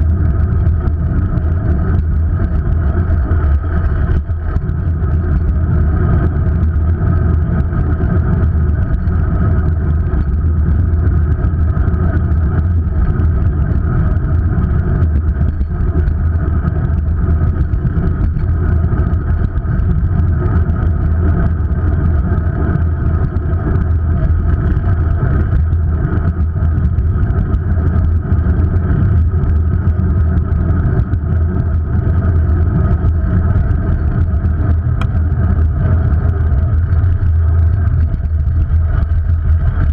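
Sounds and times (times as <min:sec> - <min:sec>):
road rumble: 0:00.0 - 0:39.9
wind on microphone: 0:00.0 - 0:39.9.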